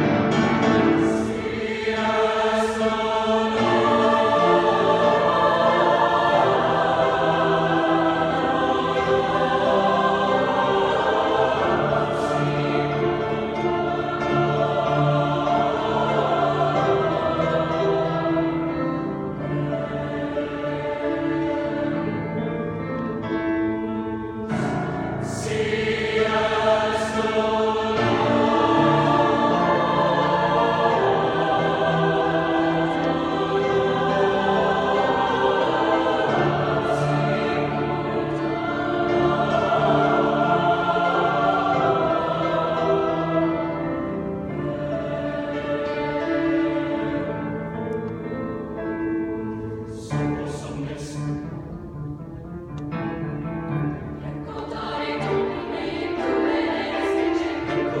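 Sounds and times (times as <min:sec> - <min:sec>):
choir singing sustained chords: 0:00.0 - 0:58.0.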